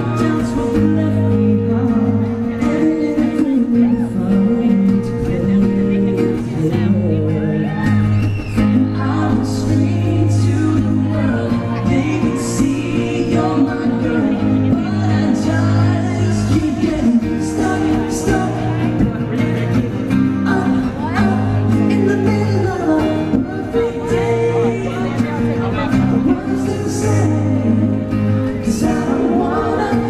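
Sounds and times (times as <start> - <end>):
men singing: 0.0 - 19.4, 20.4 - 30.0
bass line: 0.0 - 30.0
guitar: 0.0 - 30.0.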